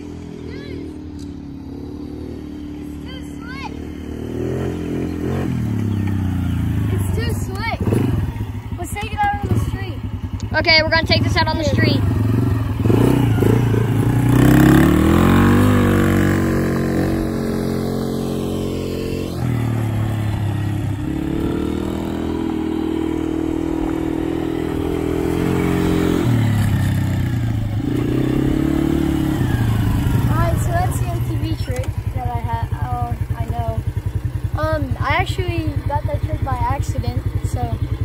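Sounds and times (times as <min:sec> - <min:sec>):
quad bike engine revving: 0:00.0 - 0:38.0.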